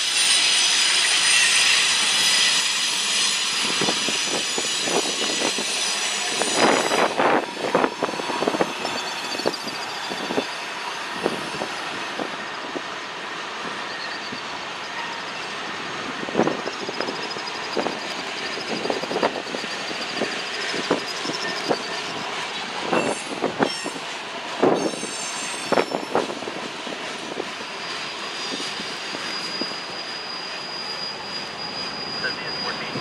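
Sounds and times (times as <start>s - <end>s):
freight train rolling: 0.0s - 33.0s
wheel flanges squealing: 0.2s - 12.9s, 13.7s - 33.0s.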